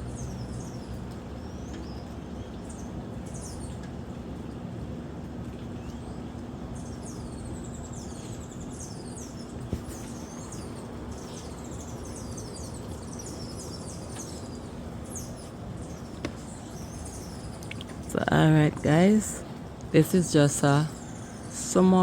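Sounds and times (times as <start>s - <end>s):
small birds chirping: 0.0s - 3.9s, 5.6s - 22.0s
low background hum: 0.0s - 22.0s.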